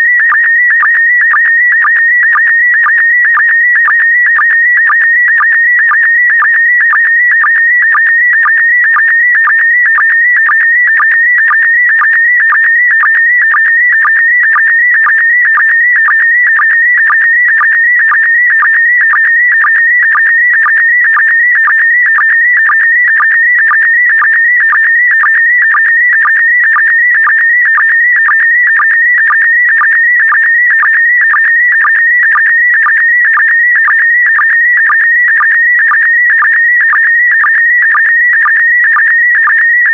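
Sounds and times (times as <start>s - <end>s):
warbling sstv signal tone: 0.0s - 39.9s.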